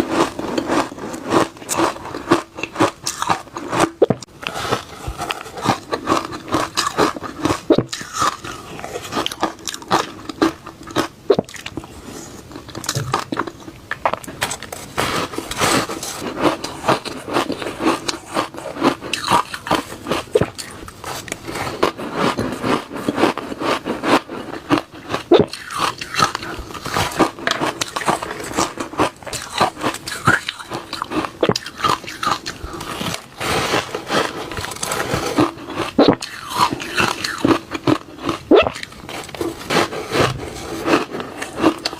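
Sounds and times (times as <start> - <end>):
chewing shaved ice: 0.0 - 41.9.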